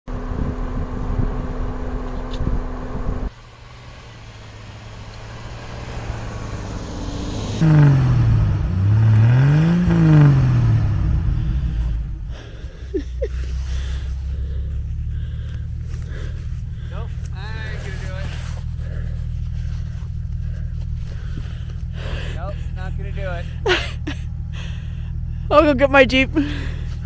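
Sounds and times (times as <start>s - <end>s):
car engine revving: 0.1s - 27.0s.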